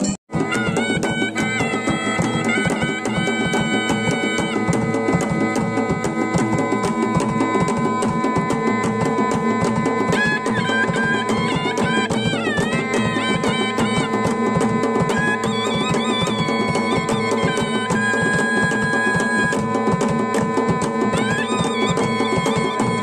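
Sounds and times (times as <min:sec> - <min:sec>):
rapid drumming: 0:00.0 - 0:23.0
wind pipes playing melody: 0:00.0 - 0:23.0.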